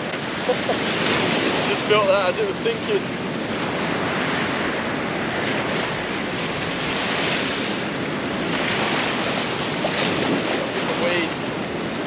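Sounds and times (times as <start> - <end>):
ocean waves breaking on rocky shore: 0.0 - 12.0.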